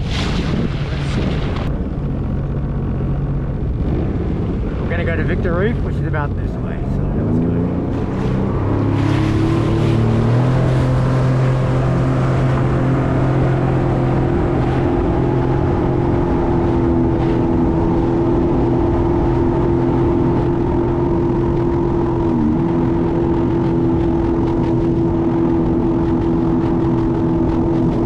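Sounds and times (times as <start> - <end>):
jet ski engine running: 0.1 - 28.0.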